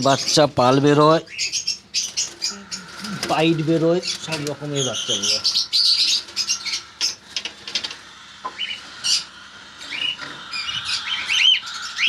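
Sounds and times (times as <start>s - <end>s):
birds chirping and squeaking: 0.0s - 12.0s.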